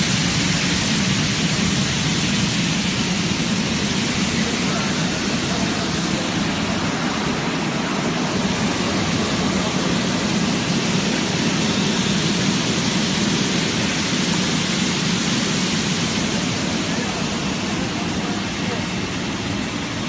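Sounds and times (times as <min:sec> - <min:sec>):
water spray rushing and splashing: 0:00.0 - 0:20.0.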